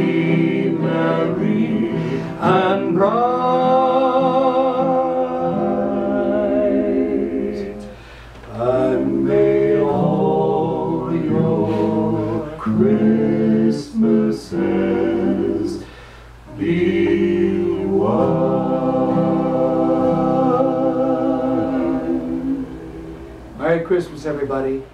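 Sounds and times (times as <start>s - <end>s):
male quartet singing in harmony: 0.0s - 23.5s.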